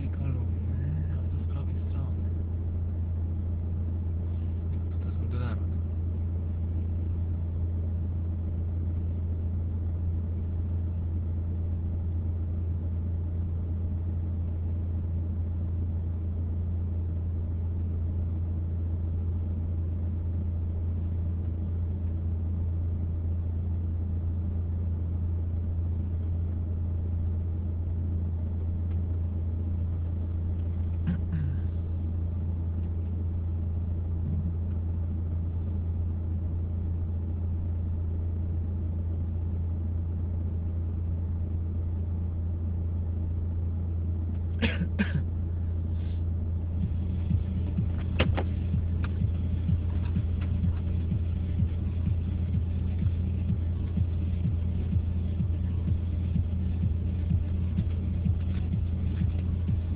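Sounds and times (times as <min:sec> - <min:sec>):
car engine humming: 0:00.0 - 0:59.9.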